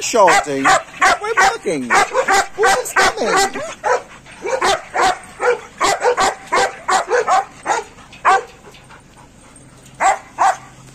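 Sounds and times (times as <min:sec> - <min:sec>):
dogs barking: 0:00.0 - 0:10.9.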